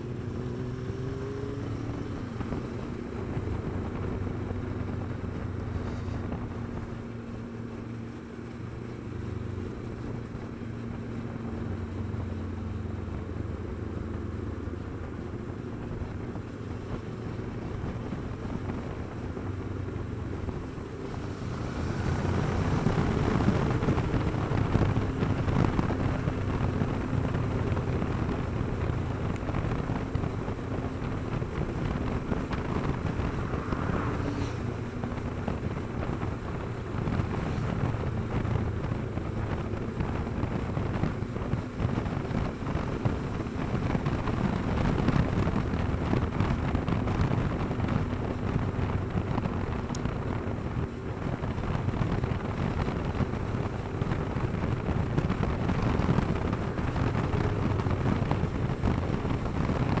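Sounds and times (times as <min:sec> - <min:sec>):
motorcycle engine cruising: 0:00.0 - 1:00.0
wind rushing over microphone: 0:00.0 - 1:00.0.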